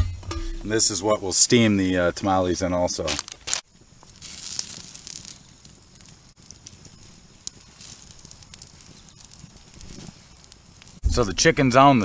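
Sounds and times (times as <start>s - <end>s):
fire popping: 0.0s - 12.0s
campfire crackling: 0.4s - 12.0s.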